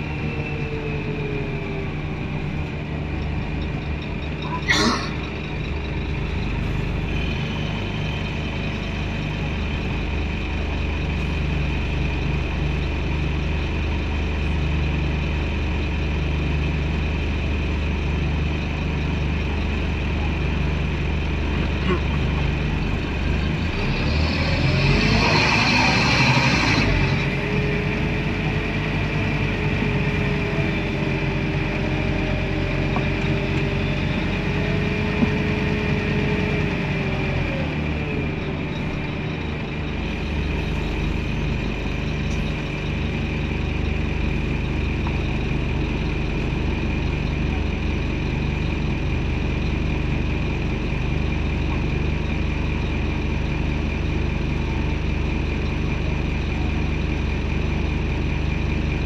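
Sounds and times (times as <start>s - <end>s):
bus diesel engine running: 0.0s - 59.0s
engine whine: 0.0s - 59.0s.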